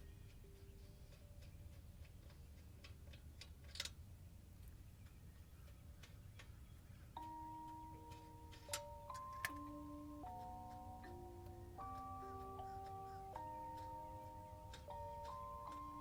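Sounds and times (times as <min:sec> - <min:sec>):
faint ticking clicks: 0:00.0 - 0:16.0.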